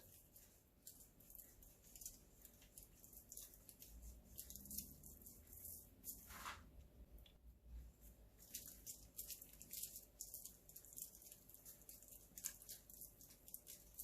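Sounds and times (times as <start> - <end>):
sugar sprinkling rustle: 0.0 - 6.6, 8.0 - 14.0.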